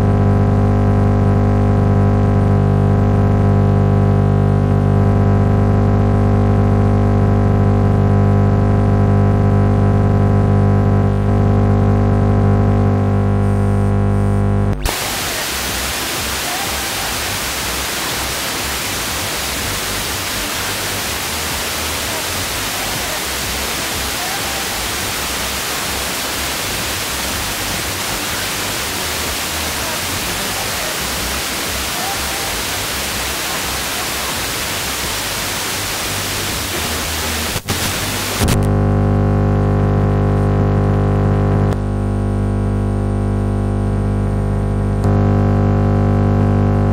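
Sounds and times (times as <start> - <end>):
loud radio interference buzz: 0.0 - 46.9
radio static hiss: 0.0 - 46.9.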